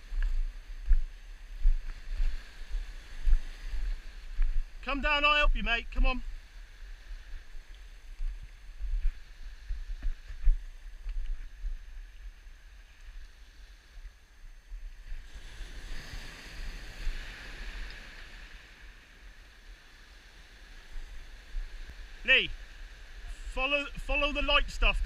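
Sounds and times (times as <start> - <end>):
wind gusting on microphone: 0.0 - 12.7, 14.6 - 25.0
sea surf on rocky shore: 0.1 - 25.0.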